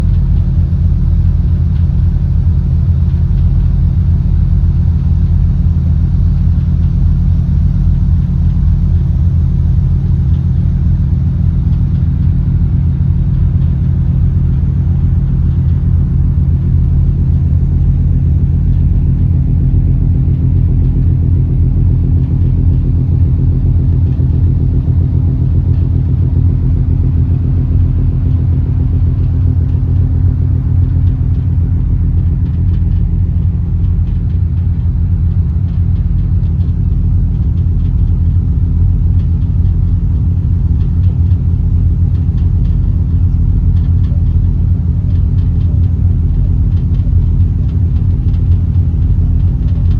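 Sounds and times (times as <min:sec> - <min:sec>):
engine running low rumble: 0:00.0 - 0:49.9.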